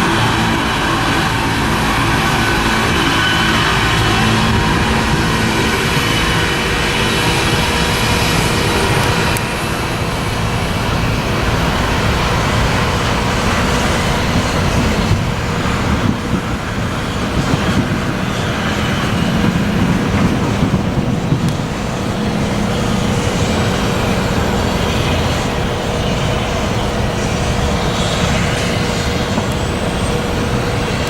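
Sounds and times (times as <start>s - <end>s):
freight train rumbling on rails: 0.0s - 31.0s
thin steady tones: 0.0s - 31.0s.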